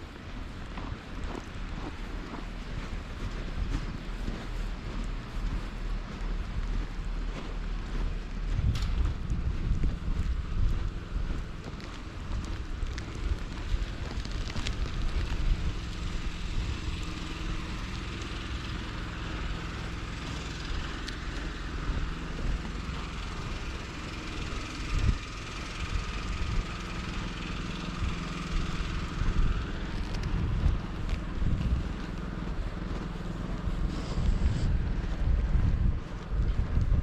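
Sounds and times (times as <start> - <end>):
vehicle engine in deep snow: 0.0 - 37.0
wind rumble on microphone: 0.0 - 37.0.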